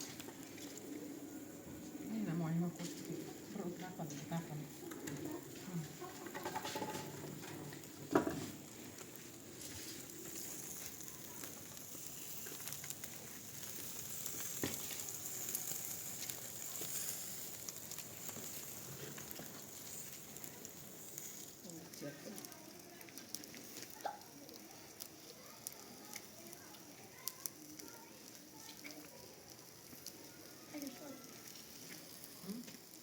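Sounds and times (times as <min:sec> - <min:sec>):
fire sizzling and crackling: 0:00.0 - 0:33.0.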